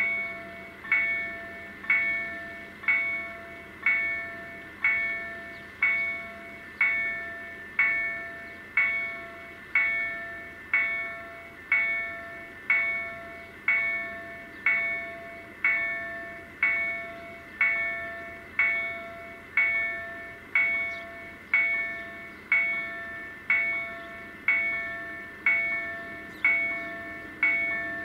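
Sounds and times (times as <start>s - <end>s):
level crossing bell ringing: 0.0s - 28.0s.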